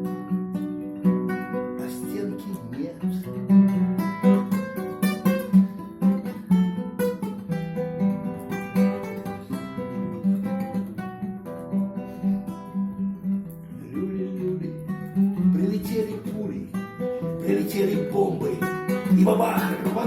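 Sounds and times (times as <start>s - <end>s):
acoustic guitar plucked and strummed: 0.0s - 20.0s.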